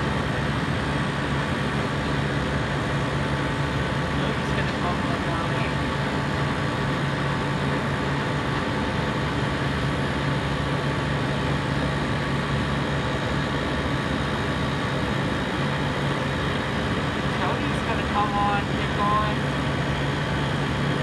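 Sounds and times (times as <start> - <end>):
compressor running: 0.0 - 21.0.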